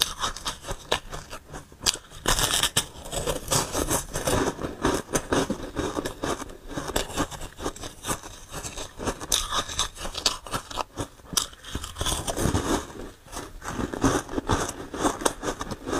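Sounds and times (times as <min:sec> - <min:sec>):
crunching and chewing ice: 0:00.0 - 0:15.9.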